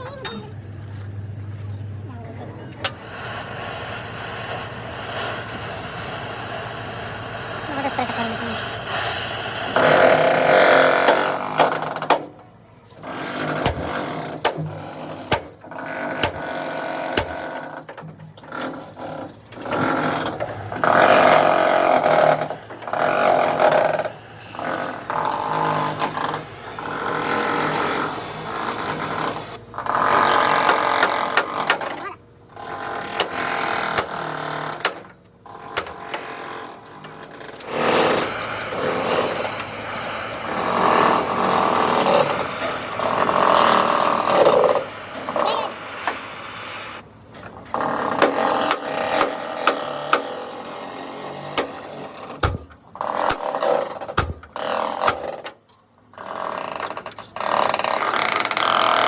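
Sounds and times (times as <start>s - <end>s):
power tool on metal: 2.8s - 12.4s, 13.0s - 59.0s.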